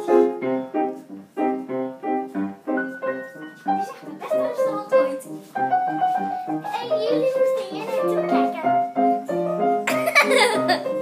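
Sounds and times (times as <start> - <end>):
bouncy piano music: 0.0 - 11.0.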